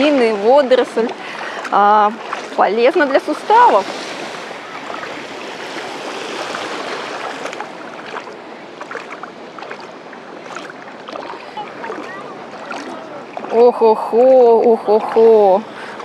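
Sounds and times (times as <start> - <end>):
feet wading through water: 0.0 - 16.0
small waves washing: 0.0 - 16.0.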